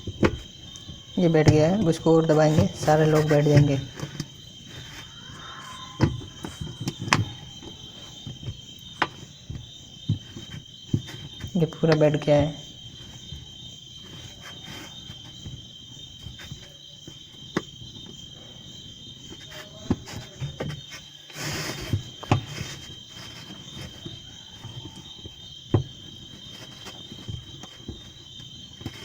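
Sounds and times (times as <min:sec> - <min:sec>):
crickets chirring: 0:00.0 - 0:29.0
knocks of dryer parts handled: 0:00.0 - 0:29.0
scraping rustle: 0:00.0 - 0:29.0.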